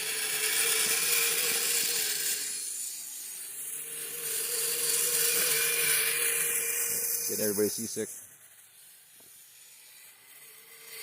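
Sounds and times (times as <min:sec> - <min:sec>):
rasping hiss through snow: 0:00.0 - 0:11.0
small electric motor whining: 0:00.0 - 0:11.0.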